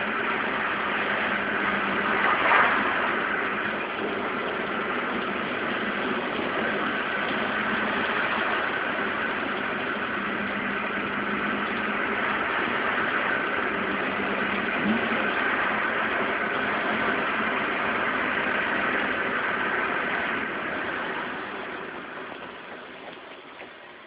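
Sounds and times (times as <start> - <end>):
motorcycle engine idling: 3.0 - 24.0.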